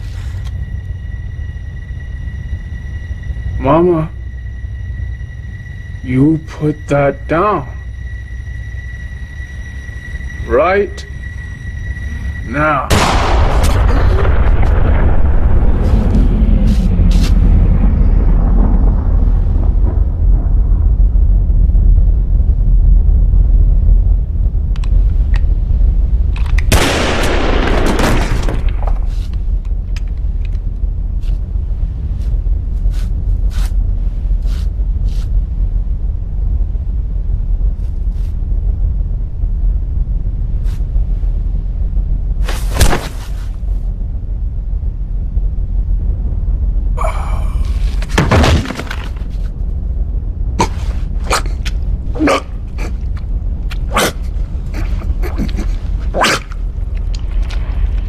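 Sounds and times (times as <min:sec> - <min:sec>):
deep steady rumble: 0:00.0 - 0:58.0.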